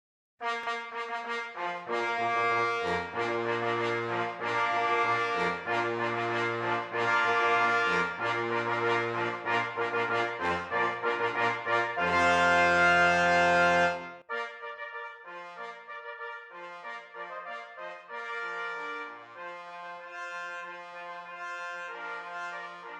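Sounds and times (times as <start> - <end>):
brass band music: 0.4 - 22.9.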